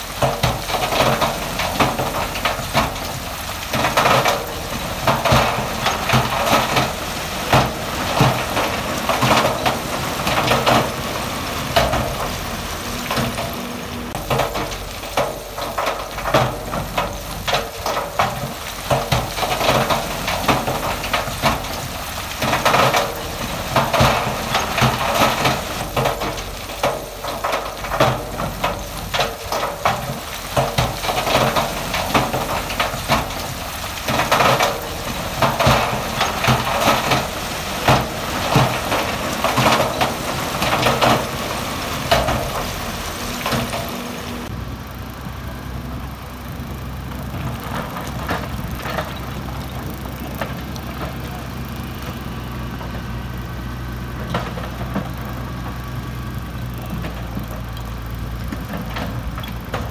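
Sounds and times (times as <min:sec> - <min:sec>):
rocks clattering and grinding: 0:00.0 - 0:44.5, 0:47.2 - 0:59.9
diesel engine running: 0:00.0 - 0:59.9.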